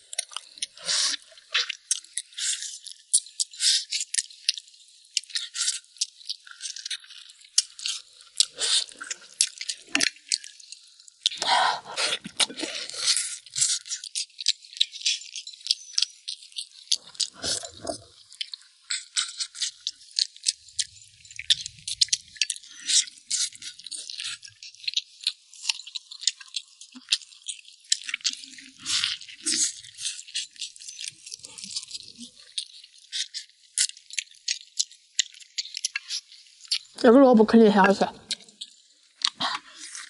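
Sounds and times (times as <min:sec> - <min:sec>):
chewing and gnawing ribs: 0:00.0 - 0:40.0.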